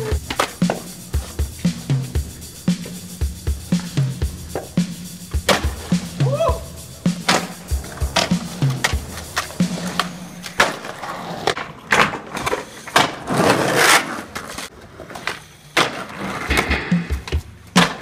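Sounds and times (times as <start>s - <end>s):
skateboard decks clacking: 0.0s - 18.0s
skateboard wheels rolling on concrete: 0.0s - 18.0s.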